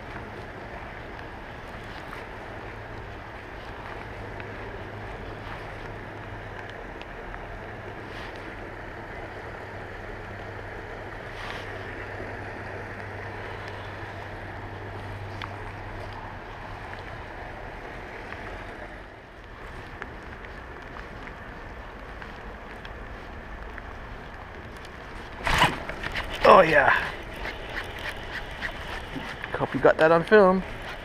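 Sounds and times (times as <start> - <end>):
low steady hum: 0.0 - 31.0
water noise: 0.0 - 31.0
wind: 0.0 - 31.0.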